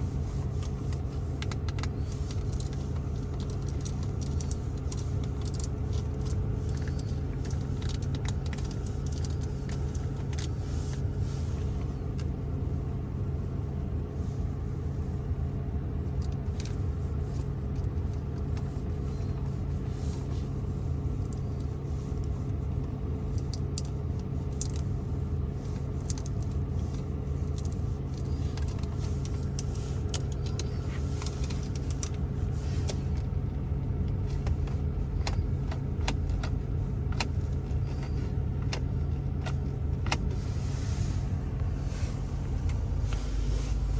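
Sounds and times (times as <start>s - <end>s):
light taps and scratching: 0.0s - 12.3s, 16.2s - 33.4s, 34.0s - 43.9s
steady low hum: 0.0s - 43.9s.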